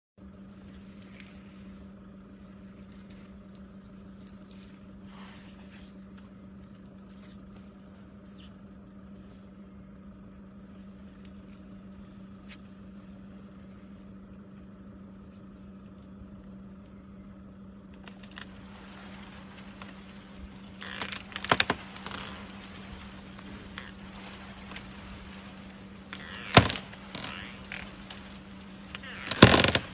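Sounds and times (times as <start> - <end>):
tree branches rustling and cracking: 0.2 - 29.9
vehicle engine idling: 0.2 - 29.9.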